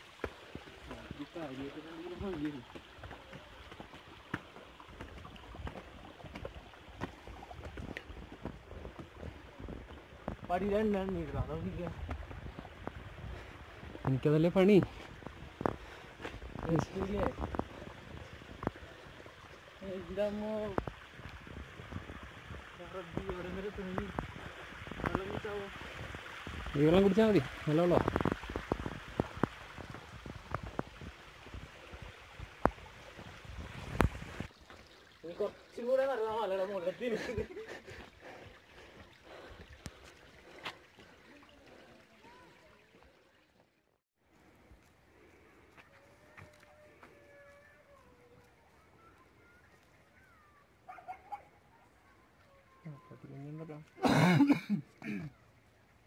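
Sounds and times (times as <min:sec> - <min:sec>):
water trickling: 0:00.0 - 0:45.3.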